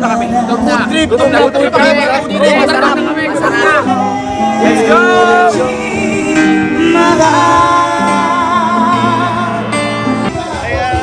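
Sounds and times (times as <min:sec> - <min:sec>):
instrumental backing music: 0:00.0 - 0:11.0
person singing with vibrato: 0:00.0 - 0:11.0.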